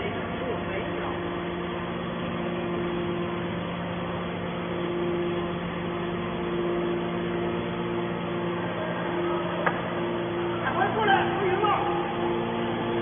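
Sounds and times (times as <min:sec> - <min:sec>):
scrap baler machine hum: 0:00.0 - 0:13.0.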